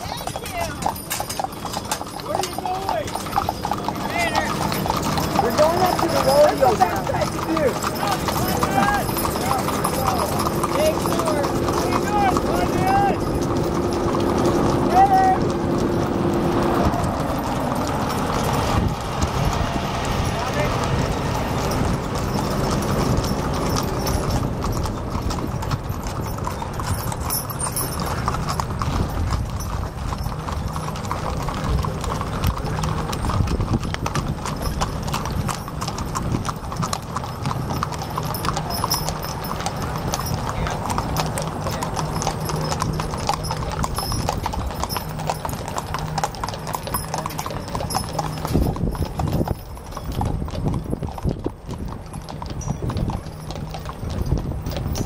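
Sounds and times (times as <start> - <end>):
horse hooves clip-clopping on pavement: 0.0 - 55.0
wagon wheels rolling on road: 0.0 - 55.0.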